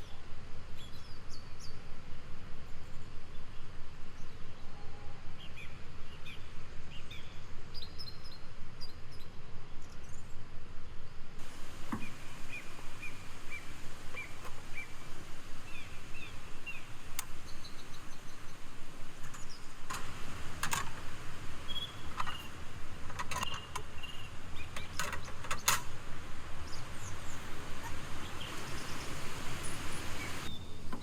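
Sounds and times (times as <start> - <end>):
small songbird chirping: 0.0 - 1.9, 2.6 - 31.0
forest ambience: 0.0 - 31.0.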